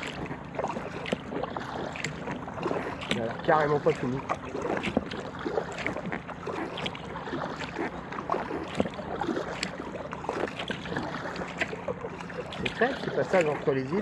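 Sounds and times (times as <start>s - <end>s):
kayak paddle dipping into water: 0.0s - 14.0s
water splashing and dripping: 0.0s - 14.0s.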